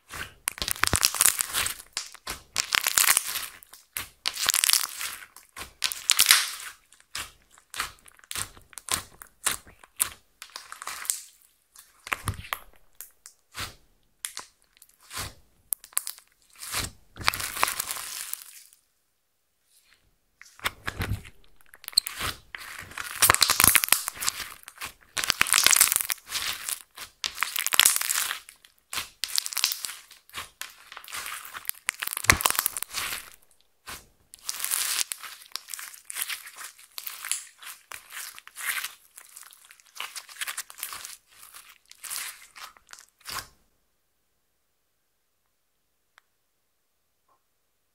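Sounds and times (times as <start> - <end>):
slime crackling and popping: 0.1 - 18.7, 20.5 - 43.5.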